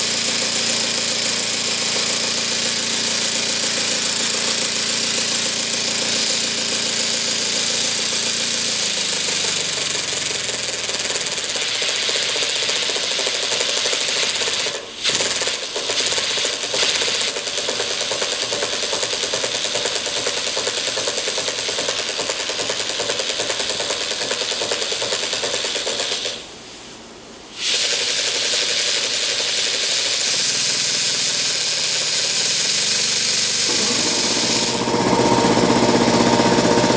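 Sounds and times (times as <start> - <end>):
model steam engine chuffing: 0.0 - 26.4, 27.6 - 36.9.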